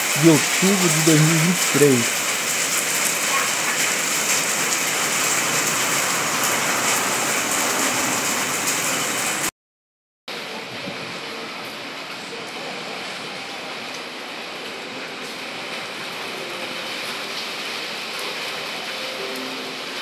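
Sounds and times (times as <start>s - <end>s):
rain falling: 0.0s - 9.5s, 10.4s - 20.0s.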